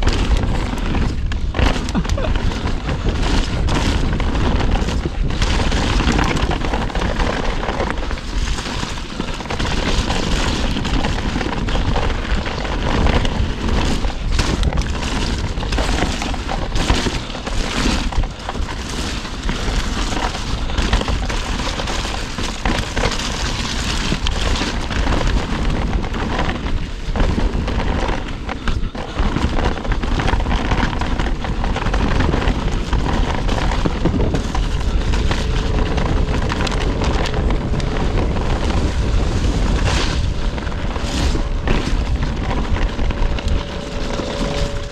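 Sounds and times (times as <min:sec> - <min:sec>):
bike rattling: 0:00.0 - 0:44.9
tyres rumbling over dirt: 0:00.0 - 0:44.9
wind buffeting microphone: 0:00.0 - 0:44.9.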